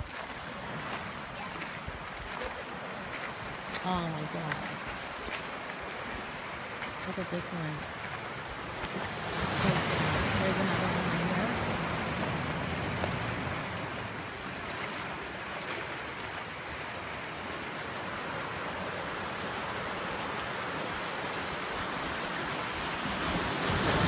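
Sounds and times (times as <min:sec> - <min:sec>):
waves breaking on rocky shore: 0:00.0 - 0:24.0.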